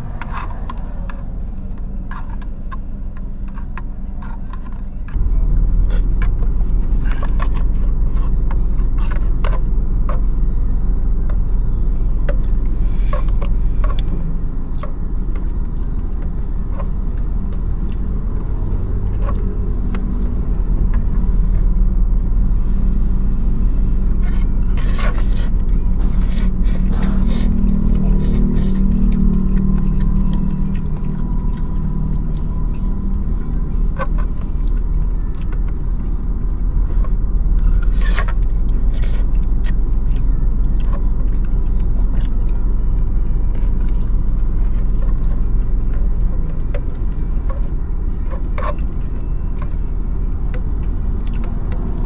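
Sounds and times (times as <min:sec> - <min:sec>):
fork scraping paper cup: 0:00.0 - 0:17.3, 0:24.0 - 0:35.8, 0:37.0 - 0:49.8
car engine idling: 0:00.0 - 0:52.0.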